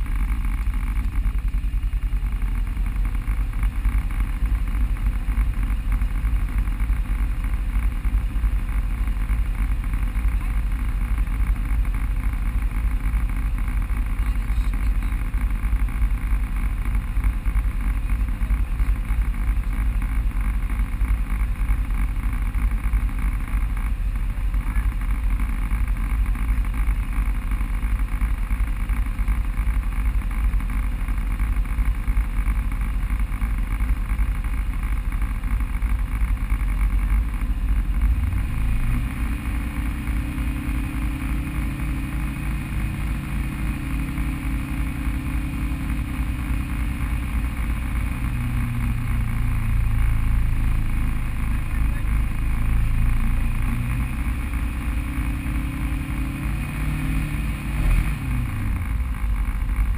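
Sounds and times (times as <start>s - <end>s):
off-road vehicle engine rumble: 0.0s - 59.9s.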